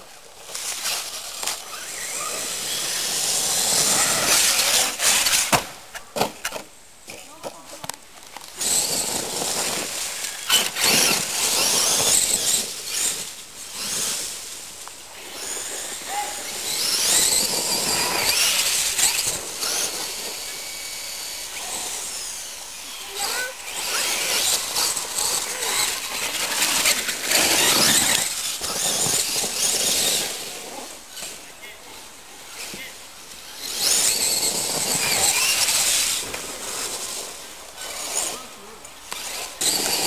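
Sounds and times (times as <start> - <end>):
toy truck electric motor whining: 0.4 - 6.6, 8.4 - 40.0.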